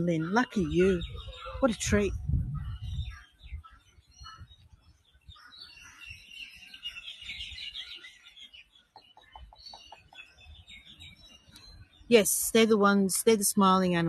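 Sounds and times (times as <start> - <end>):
birds calling and chattering: 0.0 - 14.0.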